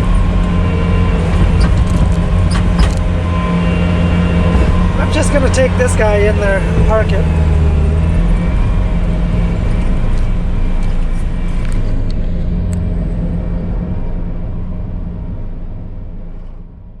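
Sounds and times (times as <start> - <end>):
vehicle engine running slowly: 0.0 - 17.0.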